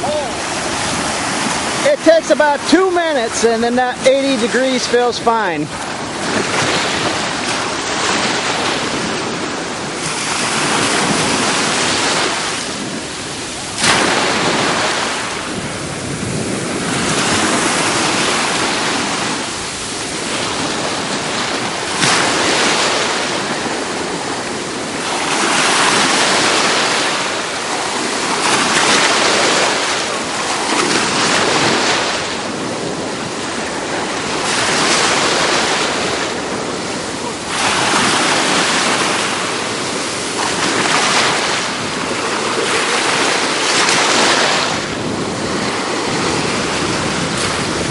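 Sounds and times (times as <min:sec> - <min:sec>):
ocean surf washing onto beach: 0:00.0 - 0:47.9.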